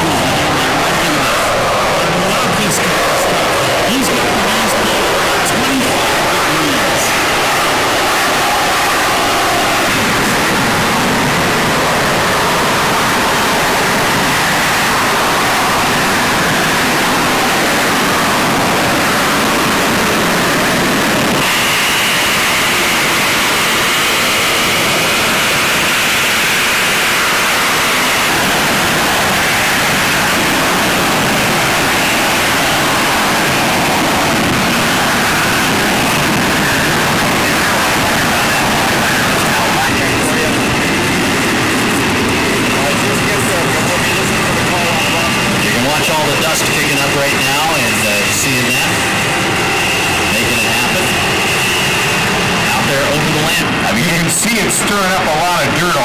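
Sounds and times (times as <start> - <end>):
fighter jet engine rushing overhead: 0.0 - 56.0
high jet whine: 0.0 - 56.0.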